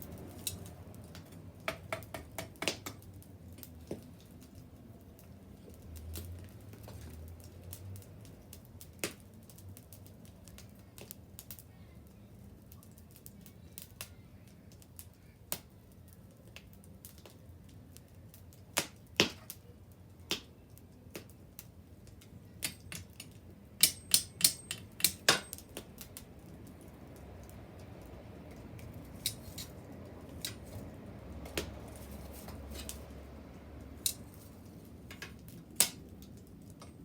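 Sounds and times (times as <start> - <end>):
bonfire crackling and popping: 0.0 - 37.0
low steady background noise: 0.0 - 37.0.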